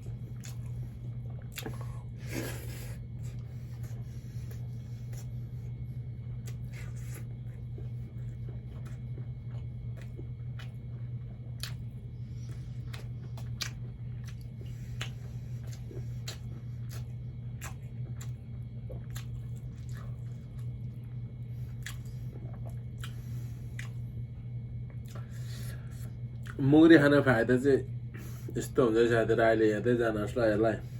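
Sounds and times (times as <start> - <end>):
chewing with wet smacks: 0.0 - 26.8
low hum: 0.0 - 30.9.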